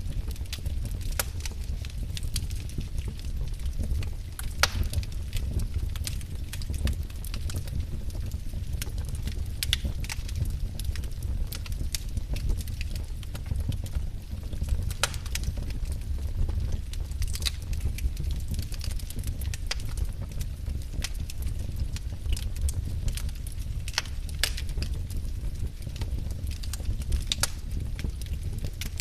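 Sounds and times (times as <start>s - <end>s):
logs crackling and popping: 0.0s - 29.0s
wood fire rumble: 0.0s - 29.0s.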